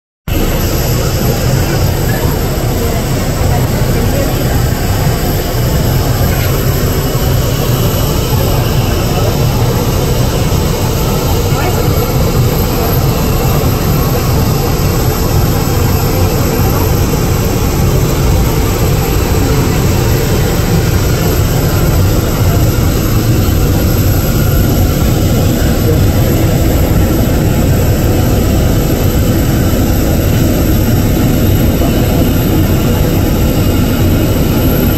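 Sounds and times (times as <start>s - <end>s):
jet engines at takeoff thrust: 0.3s - 34.9s.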